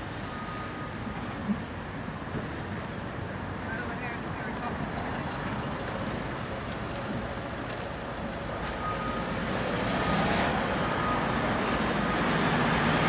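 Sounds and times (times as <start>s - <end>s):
street traffic: 0.0s - 13.0s
vehicles passing: 1.7s - 13.0s.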